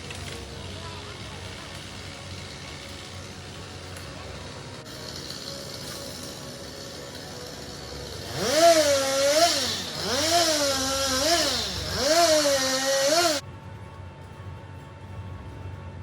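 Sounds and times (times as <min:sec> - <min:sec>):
chainsaw engine revving: 0:00.0 - 0:13.4.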